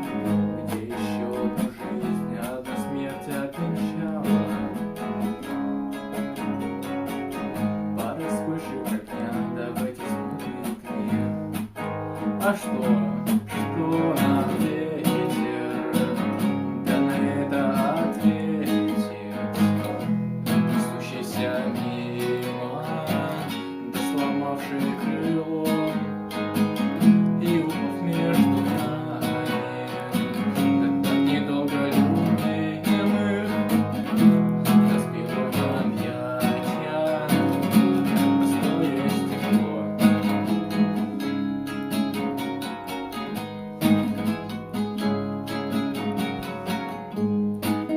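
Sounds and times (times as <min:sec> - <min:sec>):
acoustic guitar strummed and picked: 0:00.0 - 0:47.9.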